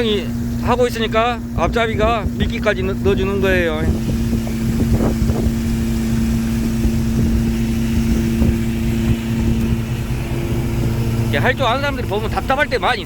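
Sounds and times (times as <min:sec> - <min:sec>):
boat engine drone: 0:00.0 - 0:13.0
wind on microphone: 0:00.0 - 0:13.0.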